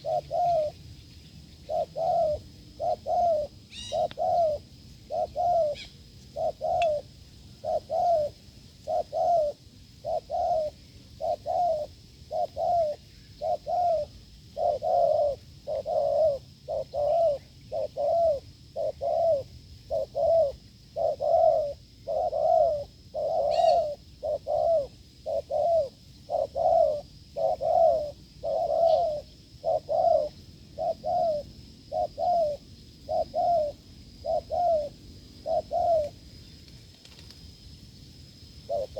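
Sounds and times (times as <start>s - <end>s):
dove cooing: 0.0s - 0.8s, 1.5s - 36.2s, 38.6s - 38.9s.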